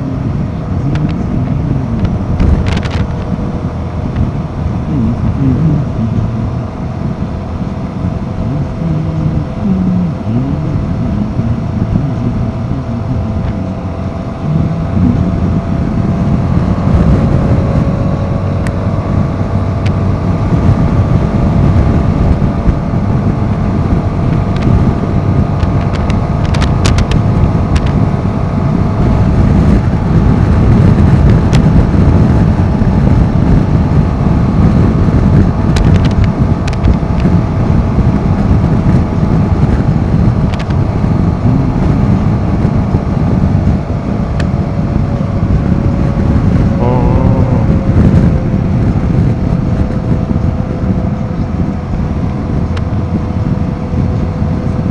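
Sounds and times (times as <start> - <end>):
motorcycle engine running: 0.0 - 54.9
wind buffeting microphone: 0.0 - 54.9.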